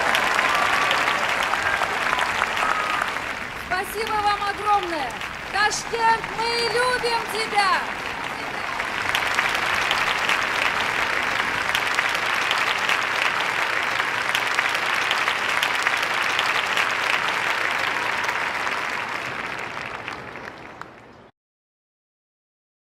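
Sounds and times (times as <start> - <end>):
audience applauding: 0.0 - 21.2.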